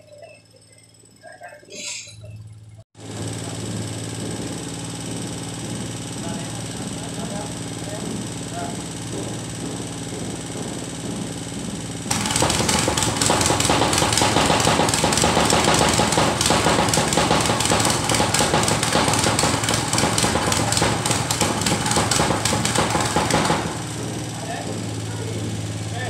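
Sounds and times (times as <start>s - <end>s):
small engine idling: 0.0s - 26.0s
tamping rammer pounding rapidly: 3.0s - 26.0s.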